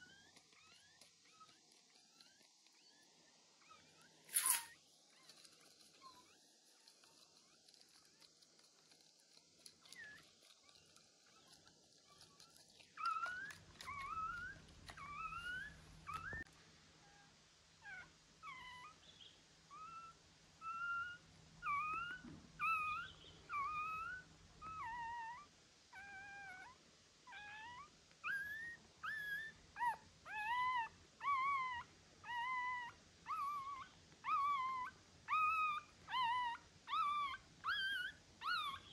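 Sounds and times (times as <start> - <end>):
puppy whimpering and crying: 0.0 - 7.9, 9.8 - 16.5, 19.7 - 38.9.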